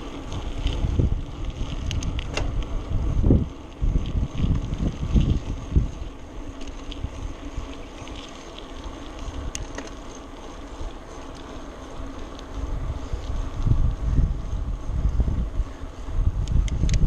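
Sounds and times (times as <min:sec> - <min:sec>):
bicycle clicks and rattles: 0:00.0 - 0:17.0
wind buffeting microphone: 0:00.0 - 0:17.0.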